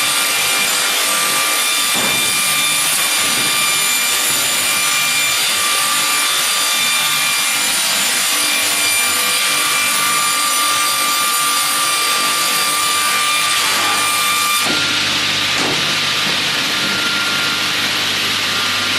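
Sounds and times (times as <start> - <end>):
sawing machine cutting wood: 0.0 - 18.9.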